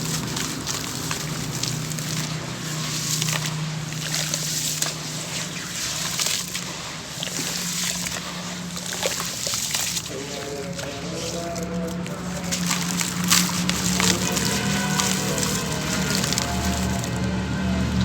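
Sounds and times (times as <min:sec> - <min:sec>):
chunks crumbling in water: 0:00.0 - 0:18.0
low steady hum: 0:00.0 - 0:18.0
water sloshing: 0:00.0 - 0:18.0.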